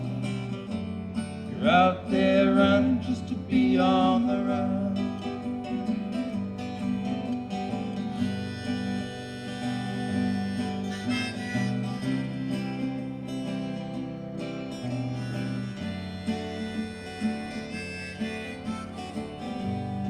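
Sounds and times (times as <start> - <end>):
acoustic guitar strumming: 0.0 - 20.0
harmonica melody: 0.0 - 20.0.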